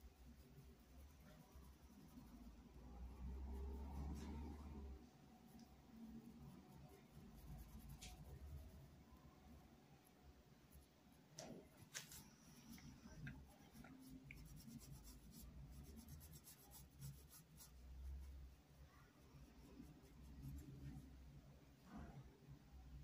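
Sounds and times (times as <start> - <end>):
paintbrush rubbing fabric: 0.0 - 9.0, 11.7 - 21.2.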